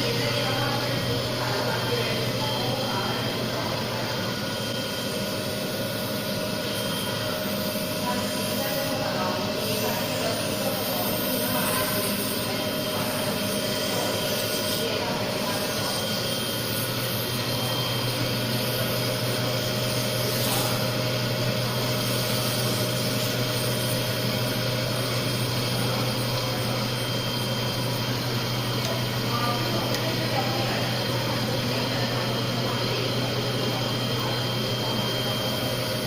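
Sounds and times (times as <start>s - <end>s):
grinder whirring and hissing: 0.0s - 36.0s.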